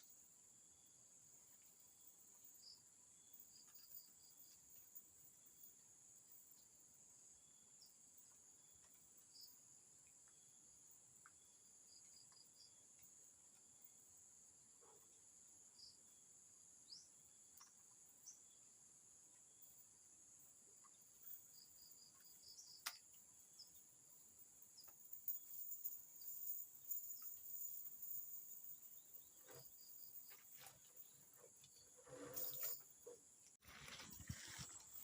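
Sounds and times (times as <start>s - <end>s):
crickets and insects chirping: 0.0s - 15.0s, 15.8s - 35.0s.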